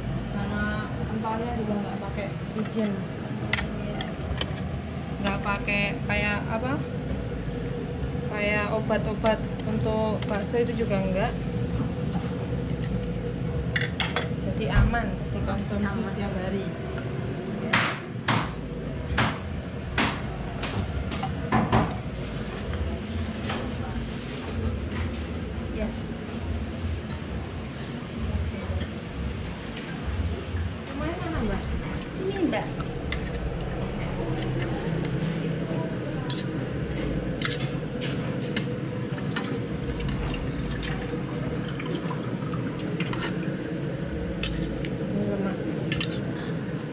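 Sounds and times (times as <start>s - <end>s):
low rumble: 0.0s - 41.8s
watery background noise: 0.0s - 46.9s.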